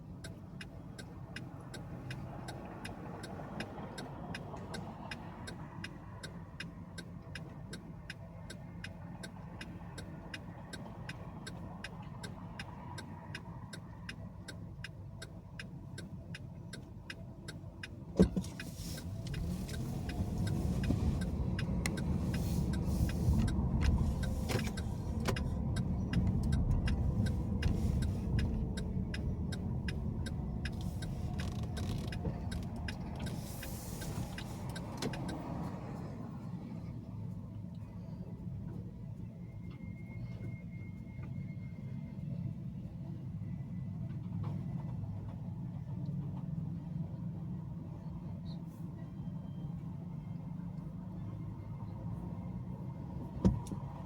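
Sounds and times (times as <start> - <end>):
turn signal ticking: 0.0 - 41.6, 42.3 - 54.0
car engine and road rumble: 0.0 - 54.0.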